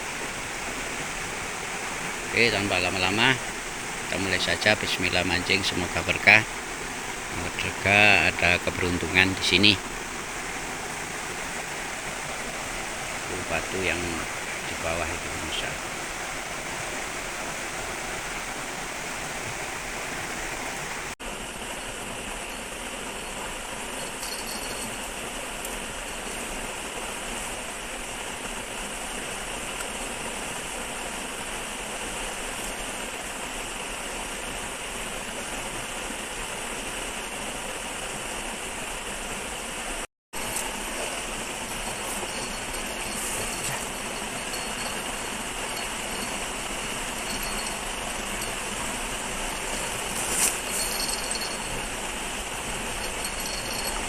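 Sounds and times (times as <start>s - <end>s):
shallow river water flowing: 0.0s - 54.0s.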